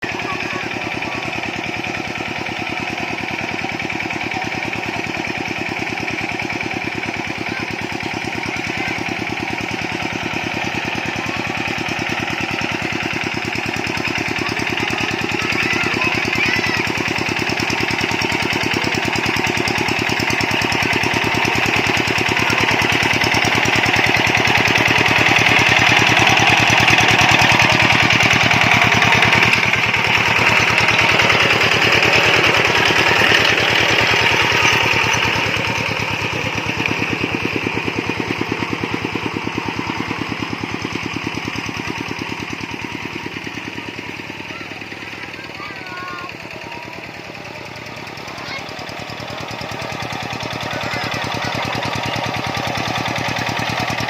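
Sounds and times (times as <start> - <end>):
tractor engine chugging: 0.0 - 54.0.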